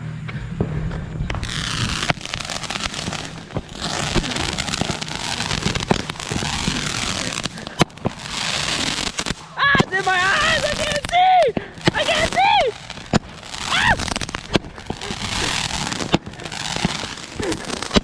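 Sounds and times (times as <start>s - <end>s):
sharp fireworks pops: 0.2s - 18.0s
fireworks spraying hiss: 0.6s - 18.0s.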